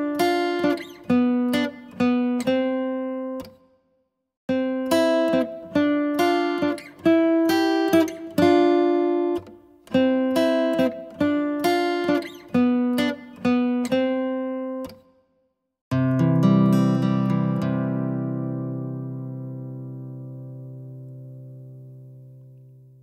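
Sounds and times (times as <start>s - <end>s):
plucked acoustic guitar melody: 0.0s - 3.7s, 4.5s - 15.1s, 15.9s - 23.0s.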